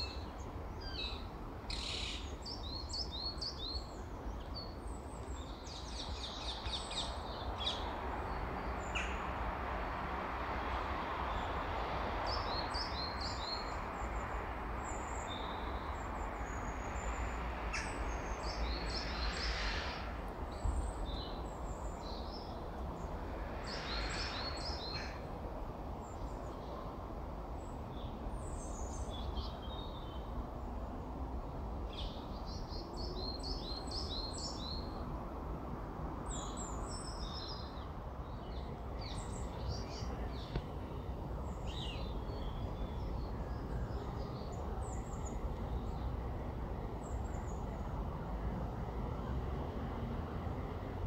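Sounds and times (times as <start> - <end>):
songbirds chirping: 0.0 - 35.2, 36.1 - 51.0.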